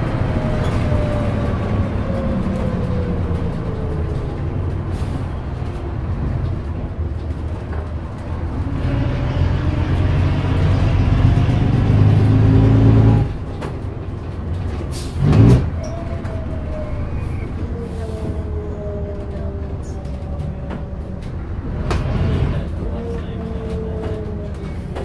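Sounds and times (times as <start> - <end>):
bus diesel engine: 0.0 - 25.0.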